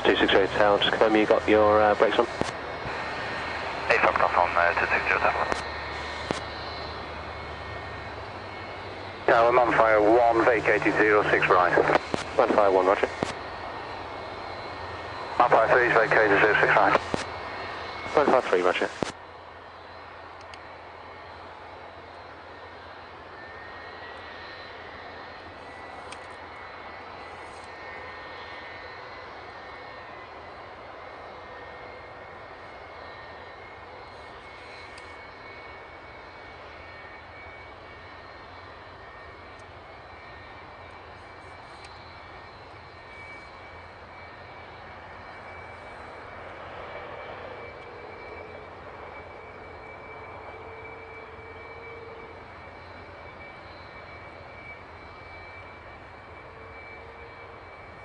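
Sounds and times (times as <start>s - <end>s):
jet engine idling: 0.0s - 58.0s.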